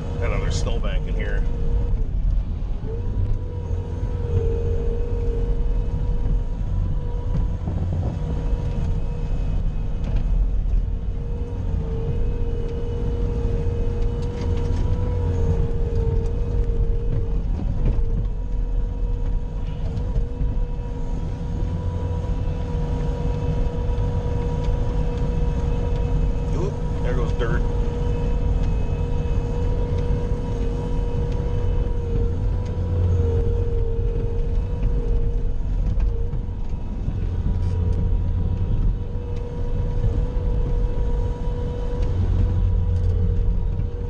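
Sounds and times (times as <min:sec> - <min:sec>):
loader engine rumbling under load: 0:00.0 - 0:44.0
steady whine: 0:00.0 - 0:44.0.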